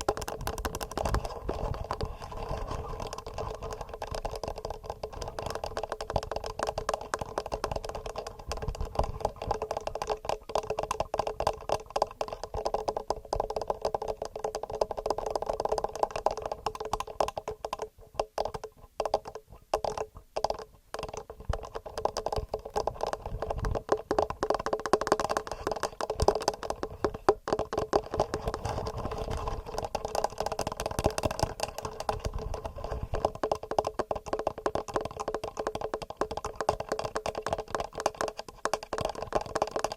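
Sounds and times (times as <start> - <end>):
fingernails tapping microphone: 0.0 - 39.9.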